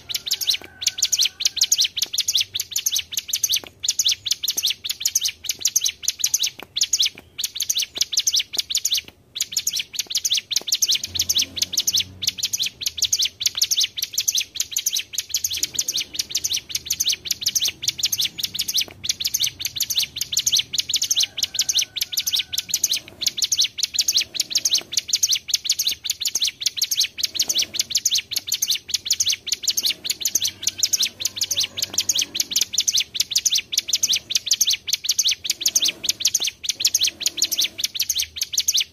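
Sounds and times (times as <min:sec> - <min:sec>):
bird singing high-pitched trill: 0:00.0 - 0:38.9.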